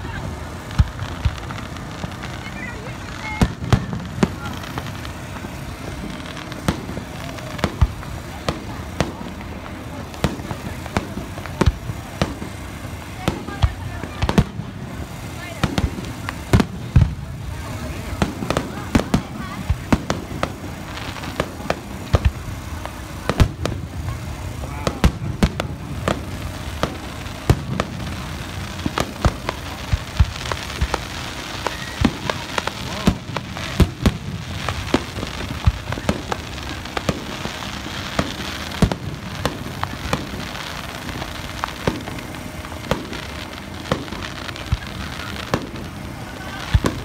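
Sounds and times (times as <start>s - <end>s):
background rumble and hiss: 0.0s - 47.0s
fireworks bursting: 0.0s - 47.0s.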